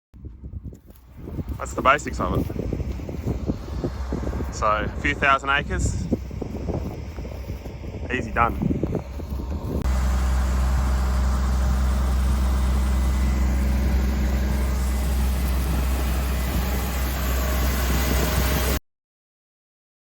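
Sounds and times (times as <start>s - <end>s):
tractor diesel engine droning: 0.3s - 18.8s.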